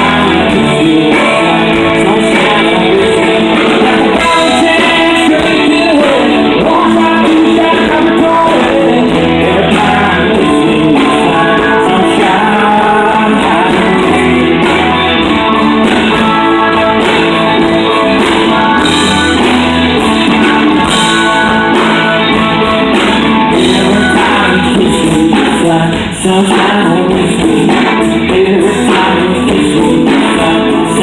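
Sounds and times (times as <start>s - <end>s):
electric guitar: 0.0s - 31.0s
live country band playing: 0.0s - 31.0s.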